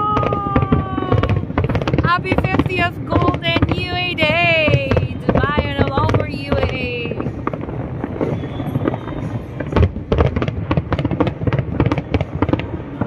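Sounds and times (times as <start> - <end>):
firework bursts and crackles: 0.0 - 13.0.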